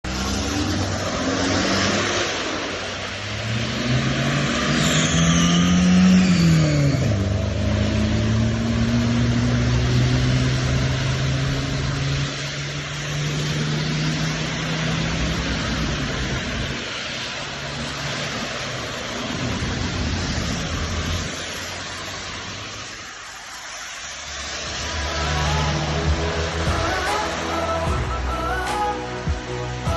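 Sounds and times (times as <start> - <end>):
vehicle engine: 0.0 - 29.9.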